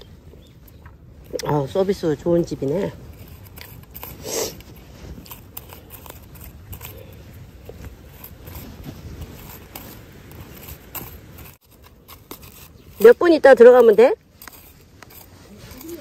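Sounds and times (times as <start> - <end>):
sickle scraping soil and weeds: 0.0 - 16.0.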